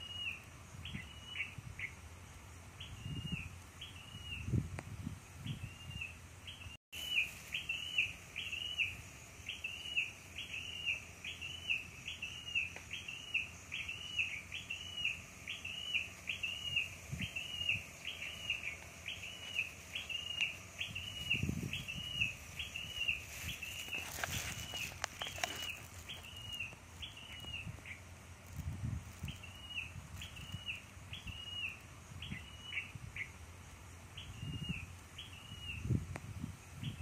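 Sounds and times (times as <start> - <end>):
bird calling: 0.0 - 2.0, 2.8 - 4.5, 5.5 - 28.1, 29.1 - 33.4, 34.1 - 35.9.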